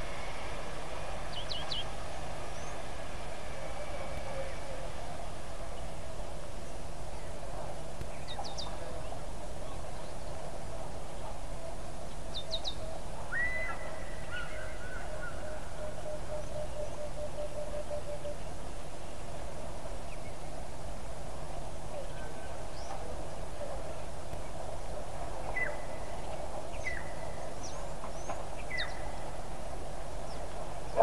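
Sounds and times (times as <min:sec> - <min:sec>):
steady outdoor hiss: 0:00.0 - 0:31.0
wild birds calling: 0:03.6 - 0:18.6, 0:19.5 - 0:31.0.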